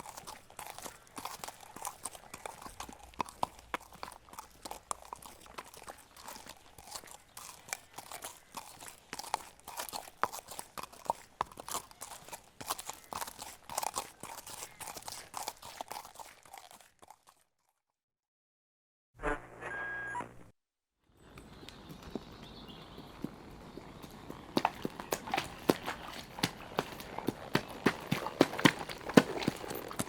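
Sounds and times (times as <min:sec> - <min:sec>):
horse hooves trotting: 0:00.0 - 0:17.4, 0:21.2 - 0:30.0.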